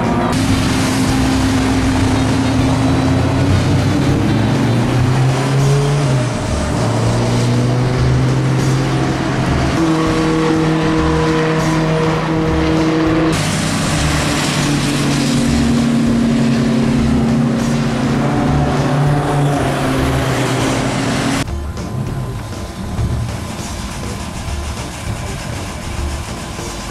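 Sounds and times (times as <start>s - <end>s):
racing car engines passing: 0.0s - 26.9s.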